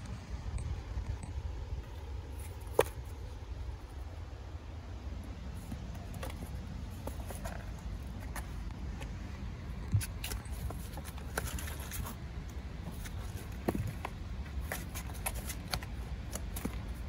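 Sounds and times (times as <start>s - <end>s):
steady low rumble: 0.0s - 14.8s
kittens scratching on cardboard: 1.8s - 4.3s, 5.3s - 17.0s.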